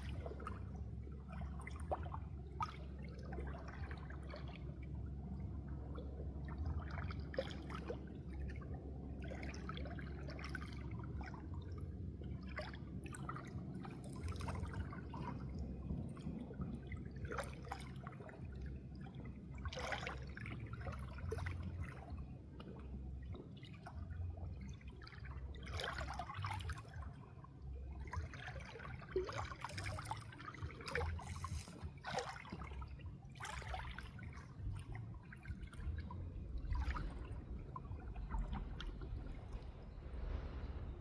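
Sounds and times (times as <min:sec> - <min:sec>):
steady low rumble: 0:00.0 - 0:41.0
water trickling and splashing: 0:00.0 - 0:41.0.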